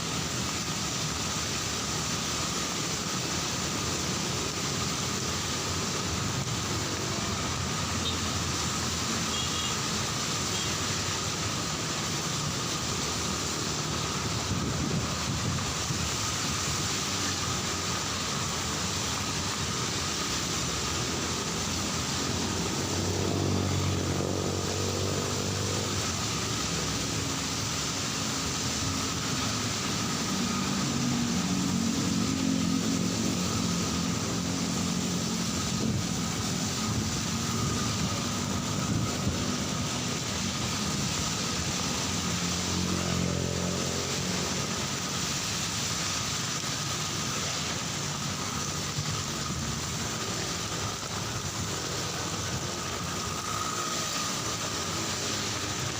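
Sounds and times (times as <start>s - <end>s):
heavy rain: 0.0s - 55.9s
vehicles passing on wet street: 0.0s - 55.9s.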